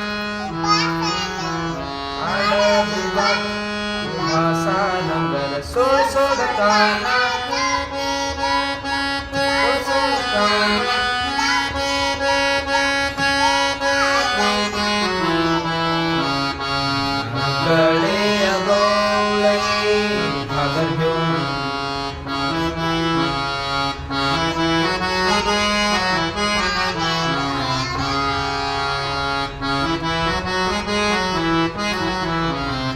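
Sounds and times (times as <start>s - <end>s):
harmonium melody: 0.0s - 32.9s.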